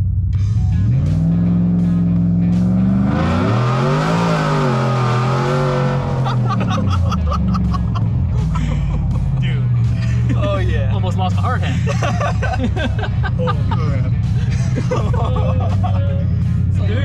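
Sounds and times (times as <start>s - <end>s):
engine under hard acceleration: 0.0s - 17.0s.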